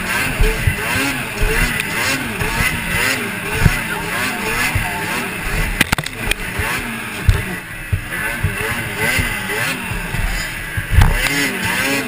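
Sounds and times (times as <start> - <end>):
sled landing thumps: 0.0 - 11.2
snowmobile engine revving: 0.0 - 12.0.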